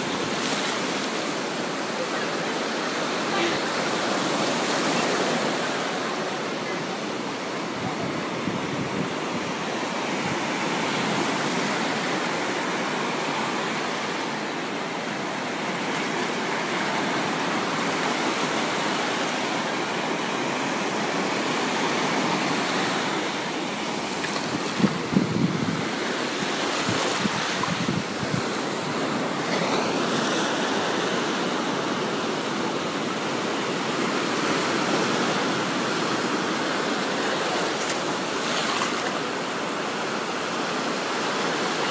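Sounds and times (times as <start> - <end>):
surf breaking on beach: 0.0 - 41.9.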